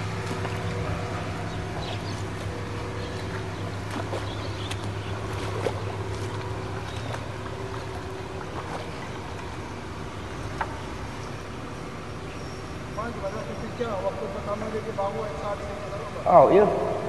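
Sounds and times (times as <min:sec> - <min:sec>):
engine running low pitch: 0:00.0 - 0:17.0.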